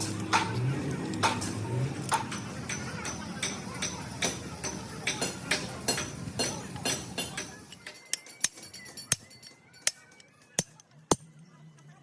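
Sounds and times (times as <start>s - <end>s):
tools clinking on metal parts: 0.0s - 11.5s.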